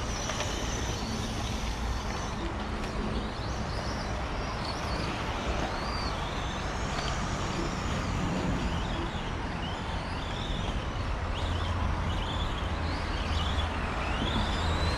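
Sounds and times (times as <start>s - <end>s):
motor whines: 0.0s - 14.9s
rc car motors and tyres rushing: 0.0s - 14.9s.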